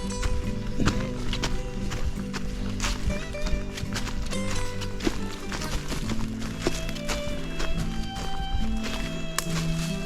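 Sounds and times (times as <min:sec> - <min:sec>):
music with clip-clopping beat: 0:00.0 - 0:10.0.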